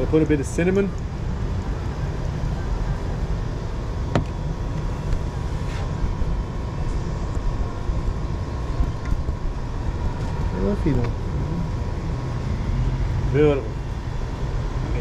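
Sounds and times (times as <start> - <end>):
faint steady hum: 0.0 - 15.0
street traffic rumble: 0.0 - 15.0.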